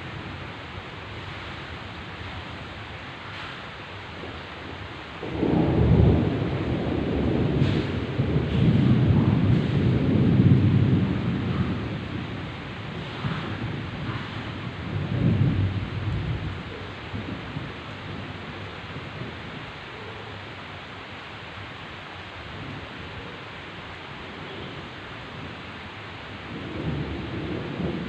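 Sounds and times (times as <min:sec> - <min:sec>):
thunder rumbling: 0:00.0 - 0:21.6, 0:22.2 - 0:28.0
heavy rain downpour hissing: 0:00.0 - 0:28.0.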